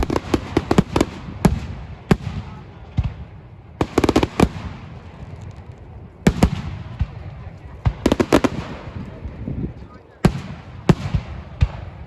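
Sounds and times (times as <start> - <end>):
fireworks crackling: 0.0 - 12.0
fireworks exploding: 0.0 - 12.0.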